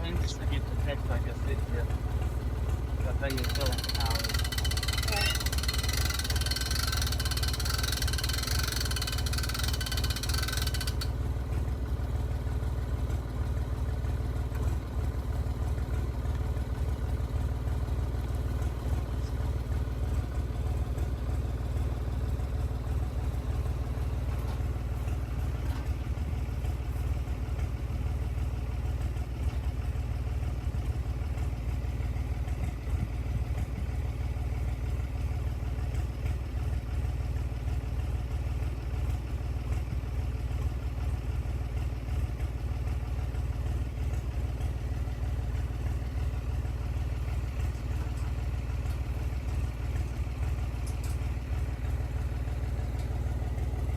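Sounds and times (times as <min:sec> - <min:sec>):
tractor engine idling: 0:00.0 - 0:53.9.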